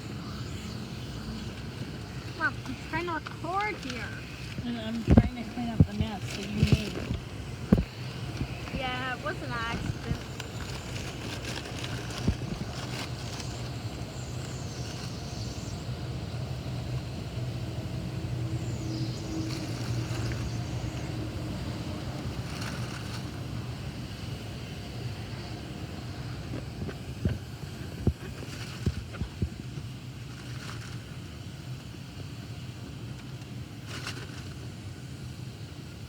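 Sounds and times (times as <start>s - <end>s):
low machine hum: 0.0s - 36.0s
noisy rushing haze: 0.0s - 36.0s.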